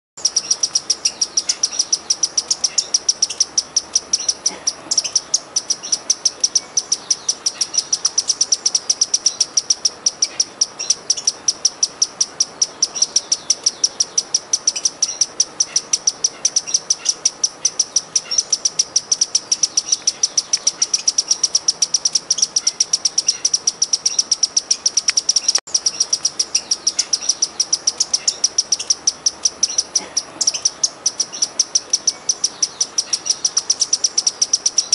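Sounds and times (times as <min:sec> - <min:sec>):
hummingbird chipping: 0:00.2 - 0:34.9.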